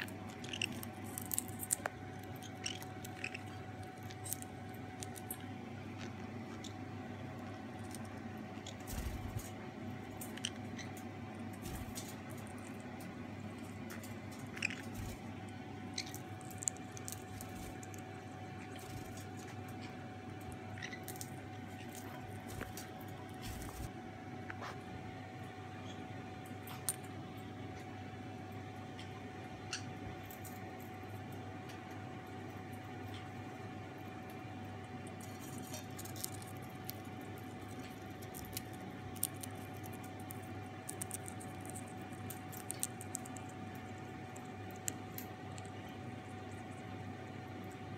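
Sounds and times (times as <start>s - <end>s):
parrots crunching popcorn: 0.0s - 24.8s, 25.4s - 47.9s.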